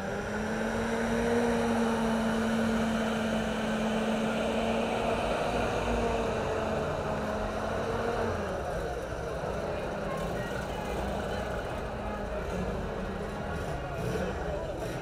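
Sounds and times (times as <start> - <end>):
jeep engines driving slowly past: 0.0 - 15.0.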